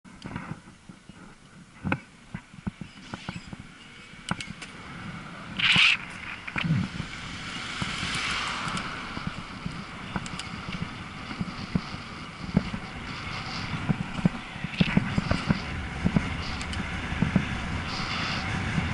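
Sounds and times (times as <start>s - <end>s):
bike rattling over road: 1.8s - 18.9s
traffic: 2.0s - 18.9s
wind rushing: 3.0s - 18.9s.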